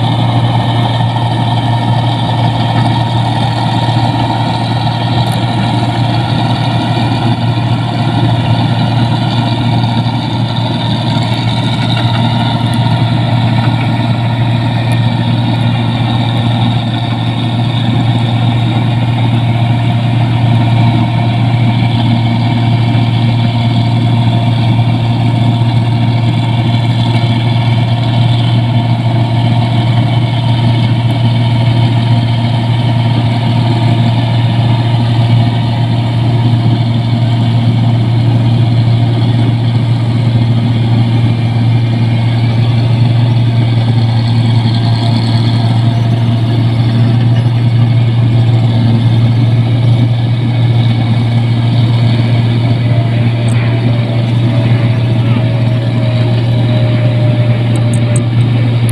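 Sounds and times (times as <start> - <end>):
combine harvester drone: 0.0 - 58.9.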